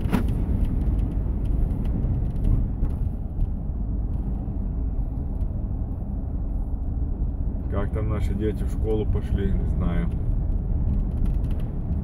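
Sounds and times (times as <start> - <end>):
car engine rumble inside cabin: 0.0 - 12.0
wind buffeting car: 0.0 - 12.0.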